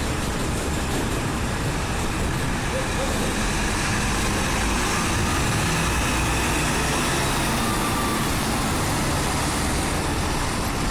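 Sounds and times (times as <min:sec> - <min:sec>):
vehicle engines running: 0:00.0 - 0:10.9.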